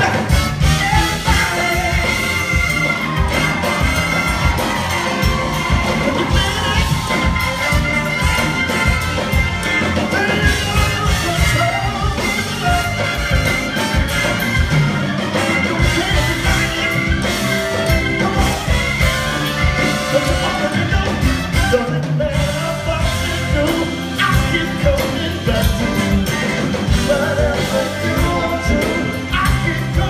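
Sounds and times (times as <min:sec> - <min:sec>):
soul band playing: 0:00.0 - 0:30.0.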